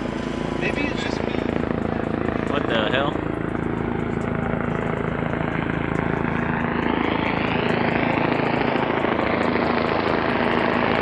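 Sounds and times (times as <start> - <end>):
car engine accelerating: 0.0 - 11.0
rising engine whine: 0.0 - 11.0.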